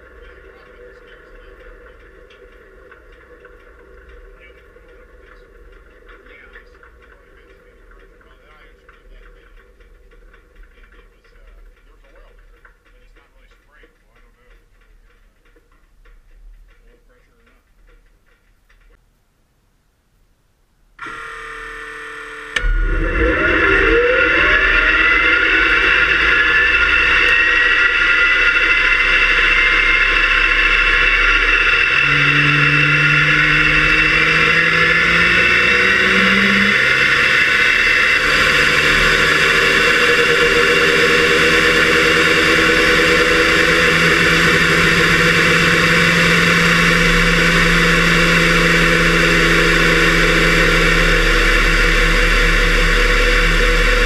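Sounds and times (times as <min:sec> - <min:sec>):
muffled turbojet engine spooling up: 0:00.0 - 0:15.3, 0:21.0 - 0:54.0.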